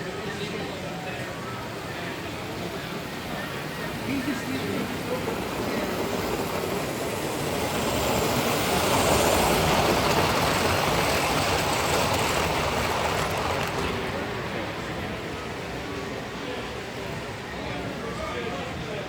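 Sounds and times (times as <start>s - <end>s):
model train running past: 0.0s - 19.0s.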